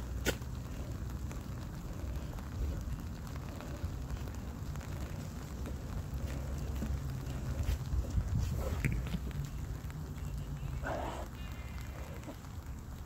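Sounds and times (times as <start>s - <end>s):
light rain falling: 0.0s - 13.0s
raindrop clicks: 0.0s - 13.0s
steady low rumble: 0.0s - 13.0s.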